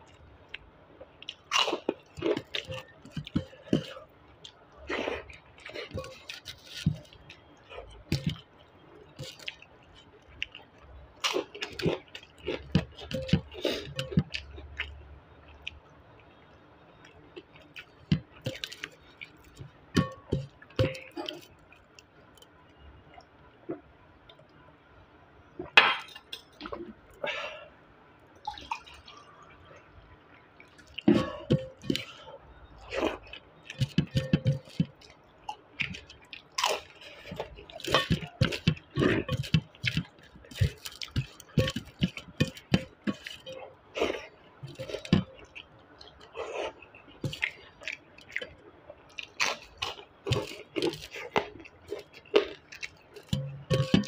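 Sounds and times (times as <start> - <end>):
wet chewing: 0.5 - 22.1, 30.5 - 54.0.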